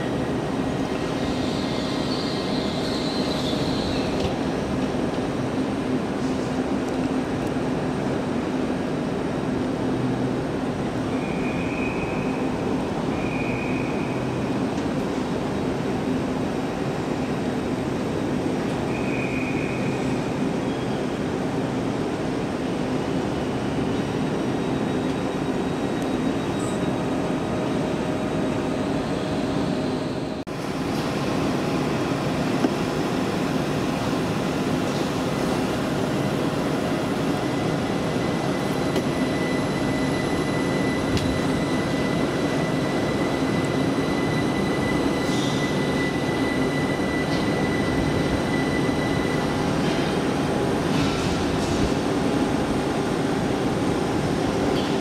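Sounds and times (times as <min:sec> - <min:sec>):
train rumbling and humming: 0:00.0 - 0:55.0.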